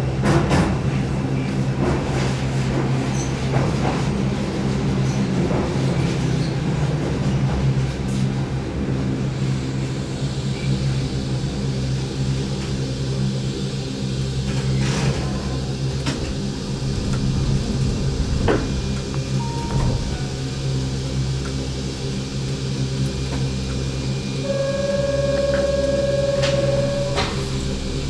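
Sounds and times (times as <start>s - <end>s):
electric train running hum: 0.0s - 28.0s.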